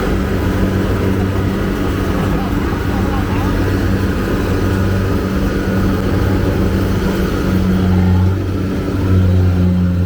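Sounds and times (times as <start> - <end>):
combine harvester engine humming: 0.0 - 10.0.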